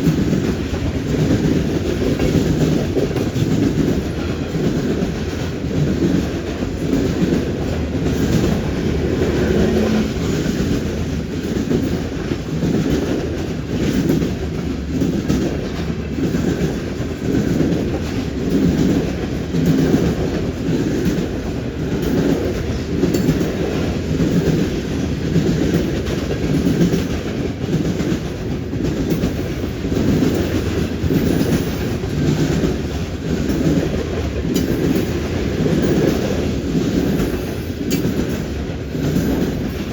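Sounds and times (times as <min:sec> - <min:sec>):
freight train wheels clacking: 0:00.0 - 0:39.9
train rumble: 0:00.0 - 0:39.9.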